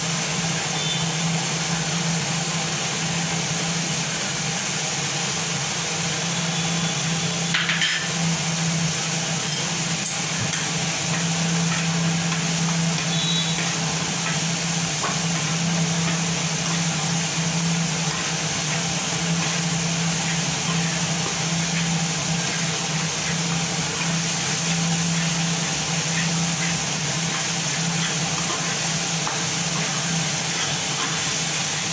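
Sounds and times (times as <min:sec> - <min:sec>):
food frying in oil: 0:00.0 - 0:31.9
motor-like hum and hiss: 0:00.0 - 0:31.9.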